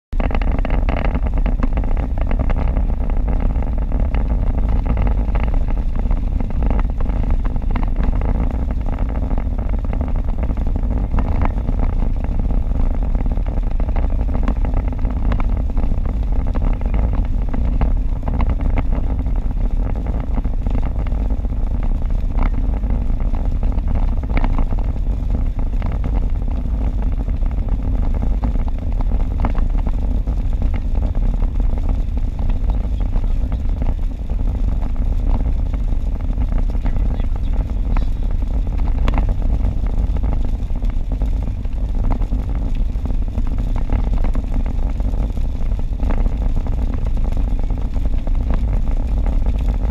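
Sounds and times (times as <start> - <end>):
road and engine rumble in car: 0.0 - 49.9
raindrops ticking on windshield: 0.2 - 49.9.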